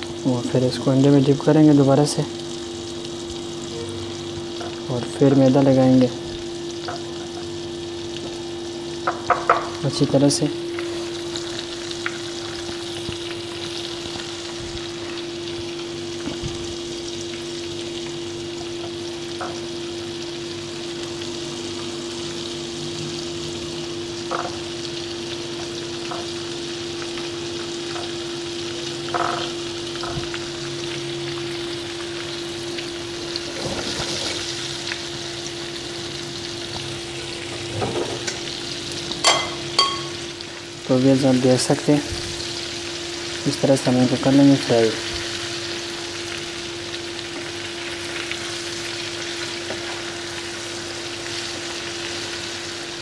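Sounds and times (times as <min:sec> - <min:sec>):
chicken sizzling in hot oil: 0:00.0 - 0:53.0.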